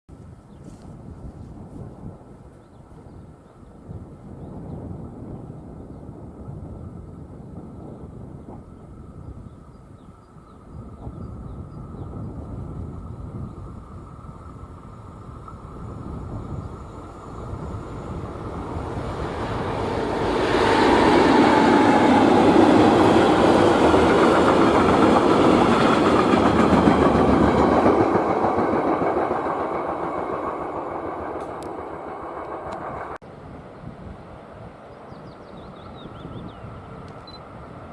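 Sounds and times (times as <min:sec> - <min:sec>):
freight train passing: 0:01.6 - 0:37.9.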